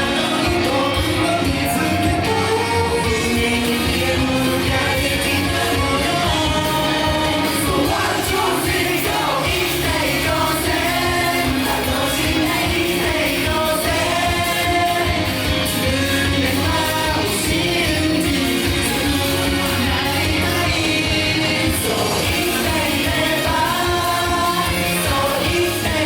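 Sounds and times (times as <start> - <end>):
pop song over sound system: 0.0 - 26.0.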